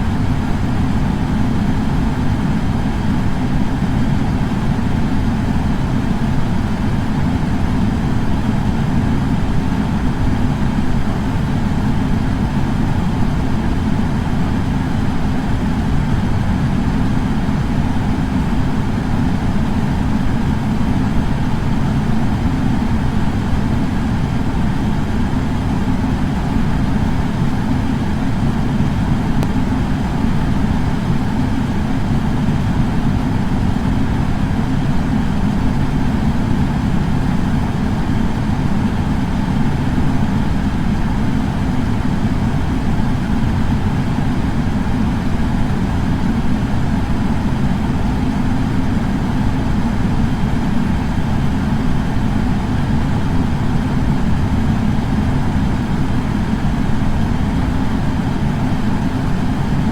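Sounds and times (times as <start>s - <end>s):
air purifier fan running: 0.0s - 59.9s.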